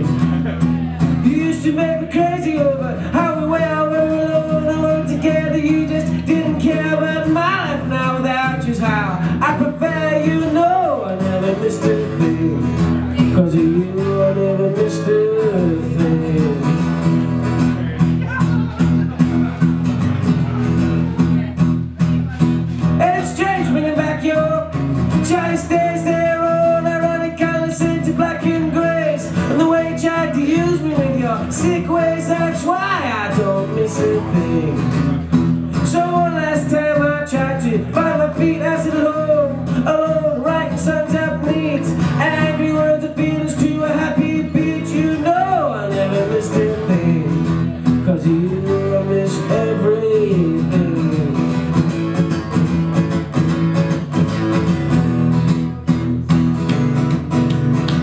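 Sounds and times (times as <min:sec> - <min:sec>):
man singing: 0:00.0 - 0:21.5, 0:22.2 - 0:52.6
acoustic guitar strumming: 0:00.0 - 0:58.0.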